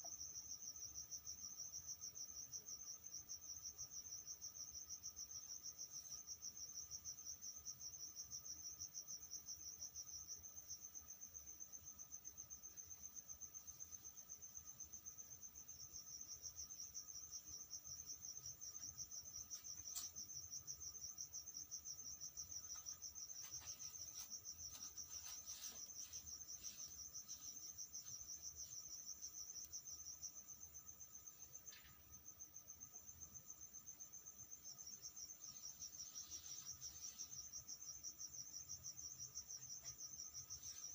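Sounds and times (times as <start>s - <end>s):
cricket chirping trill: 0.0s - 40.9s.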